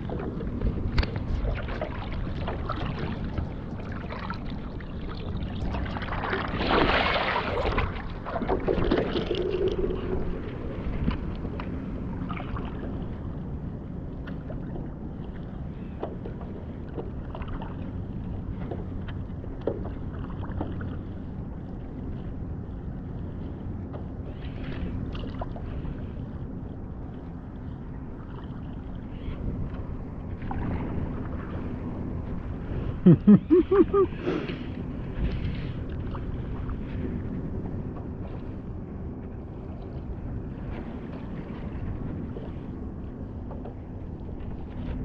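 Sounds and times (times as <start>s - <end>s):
water splashing against boat: 0.0s - 45.0s.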